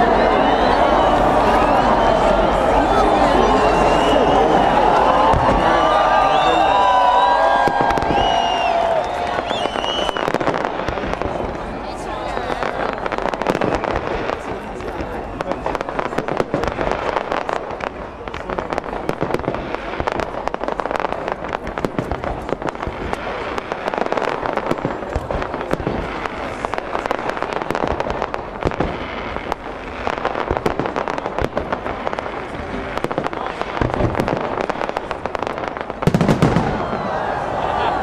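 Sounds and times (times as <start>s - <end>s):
fireworks bangs and pops: 0.1s - 37.4s.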